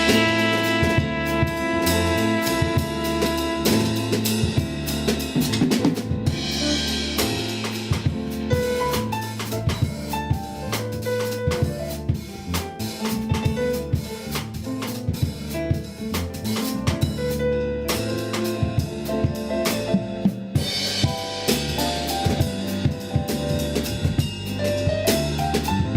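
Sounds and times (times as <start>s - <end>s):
bass guitar line: 0.0s - 25.9s
drum kit beat: 0.0s - 25.9s.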